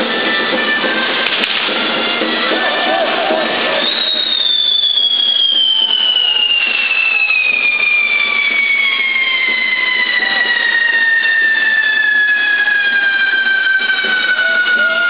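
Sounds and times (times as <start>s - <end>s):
firework fountains hissing: 0.0s - 15.0s
firework whistle falling in pitch: 0.0s - 15.0s.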